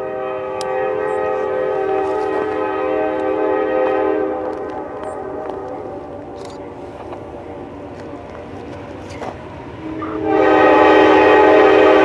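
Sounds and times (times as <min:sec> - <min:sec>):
train air horn blast: 0:00.0 - 0:08.0, 0:09.7 - 0:12.0
low rumble of train: 0:00.0 - 0:12.0.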